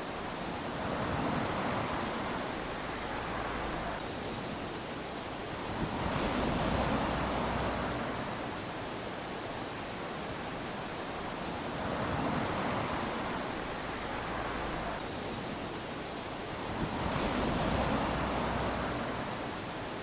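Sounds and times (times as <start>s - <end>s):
small waves lapping on sand: 0.0s - 20.0s.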